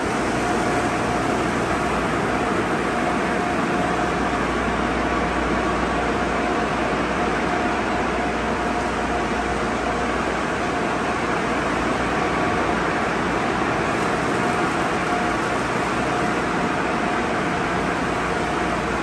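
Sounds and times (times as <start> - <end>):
faint steady whine: 0.0 - 19.0.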